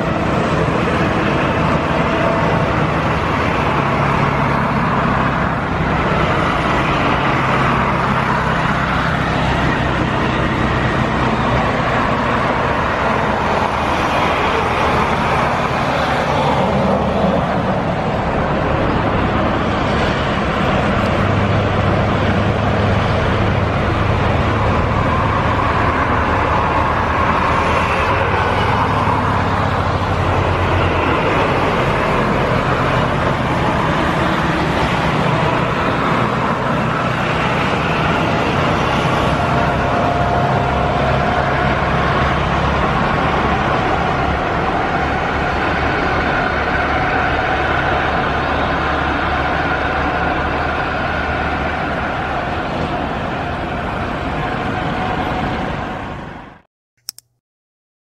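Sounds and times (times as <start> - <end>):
jet engines at takeoff: 0.0 - 56.6.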